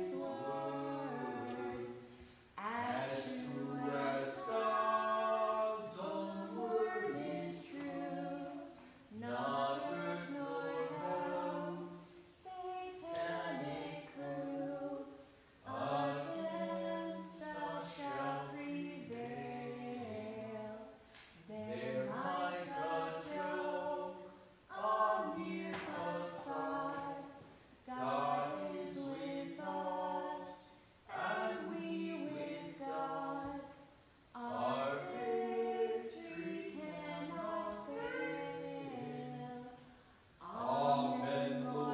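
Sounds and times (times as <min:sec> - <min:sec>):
choir singing a hymn: 0:00.0 - 0:41.9.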